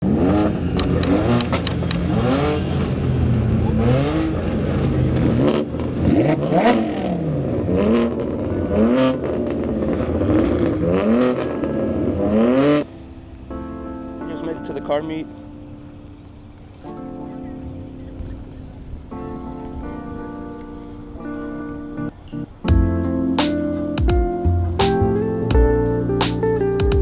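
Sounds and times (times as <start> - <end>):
car engines accelerating: 0.0 - 22.2
exhaust cracks and pops: 0.1 - 22.1.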